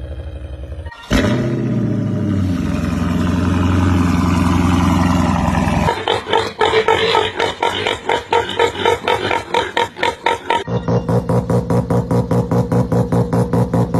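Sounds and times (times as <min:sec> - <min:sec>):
animal making engine-like sounds: 0:00.0 - 0:13.9.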